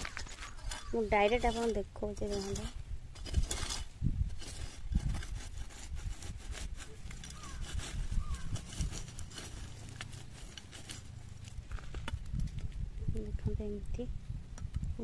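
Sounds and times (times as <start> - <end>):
metal ladle scraping through embers: 0.0 - 12.3.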